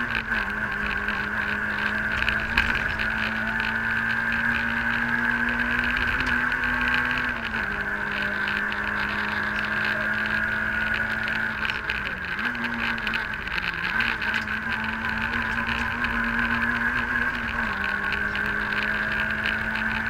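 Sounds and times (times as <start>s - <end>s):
car engine revving high: 0.0s - 20.0s
steady high whine: 0.0s - 20.0s.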